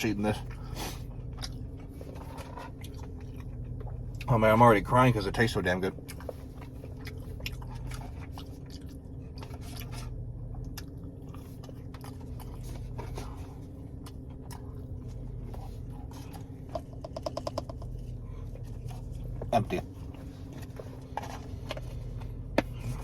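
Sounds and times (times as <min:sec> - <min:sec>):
person chewing crunchy food: 0:00.4 - 0:04.3, 0:05.9 - 0:23.0.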